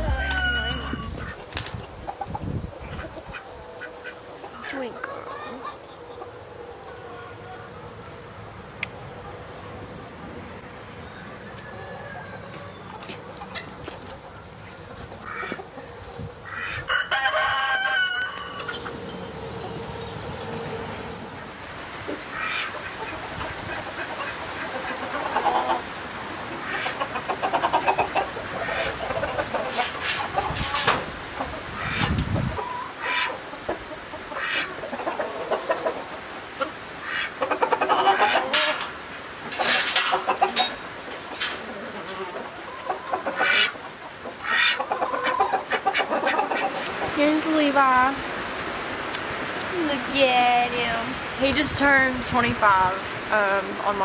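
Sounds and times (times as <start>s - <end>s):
chickens clucking: 0.0s - 47.6s.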